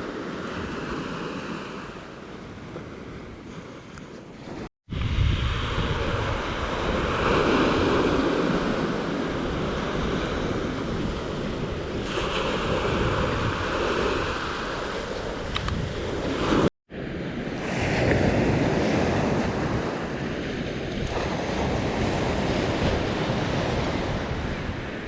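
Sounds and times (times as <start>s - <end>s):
ocean waves breaking on beach: 0.0s - 25.0s.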